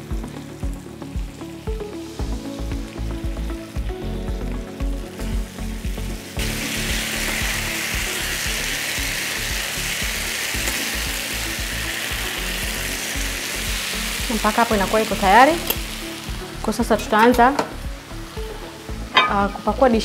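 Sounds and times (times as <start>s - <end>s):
background music: 0.0s - 20.0s
chicken sizzling in a pan: 0.0s - 20.0s.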